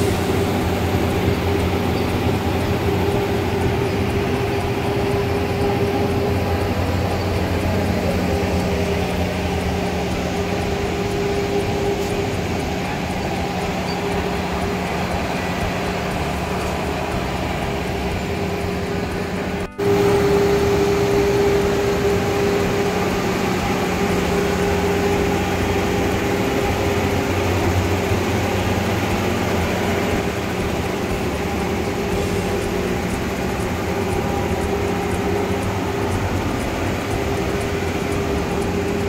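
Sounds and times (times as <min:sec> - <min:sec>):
mechanical hum: 0:00.0 - 0:39.0
street noise: 0:00.0 - 0:39.0.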